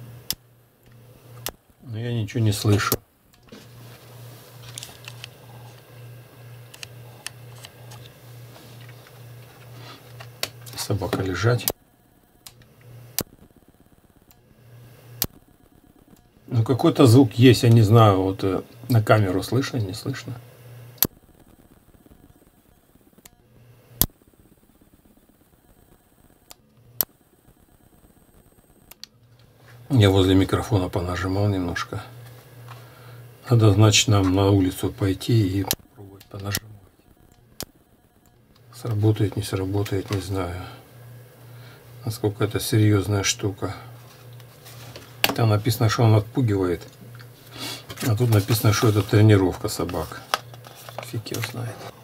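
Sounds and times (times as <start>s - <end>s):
faint pulsing hum: 0.0s - 52.0s.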